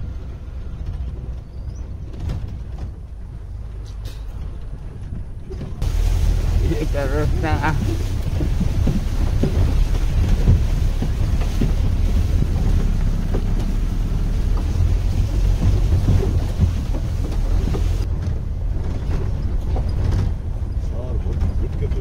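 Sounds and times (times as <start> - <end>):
vehicle jolting knocks: 0.0 - 3.4, 4.0 - 22.0
vehicle engine and road rumble: 0.0 - 22.0
wind buffeting microphone: 0.0 - 22.0.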